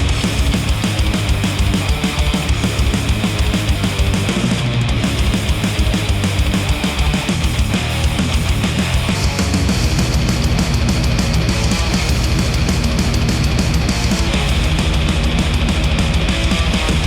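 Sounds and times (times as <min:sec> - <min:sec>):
heavy rock music through headphones: 0:00.0 - 0:17.0.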